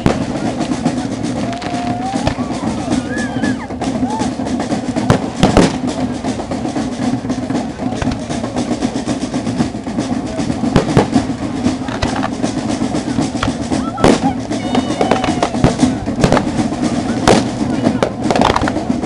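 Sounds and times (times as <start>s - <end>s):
fireworks sharp bangs: 0.0s - 3.1s, 3.7s - 19.0s
fireworks crackling: 0.0s - 19.0s.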